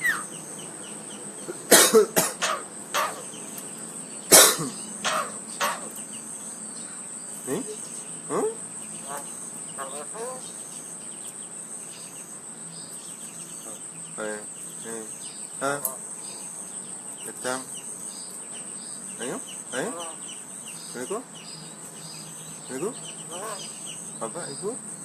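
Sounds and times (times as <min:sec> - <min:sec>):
bird calling: 0:00.0 - 0:24.8
cricket trill: 0:00.0 - 0:25.0.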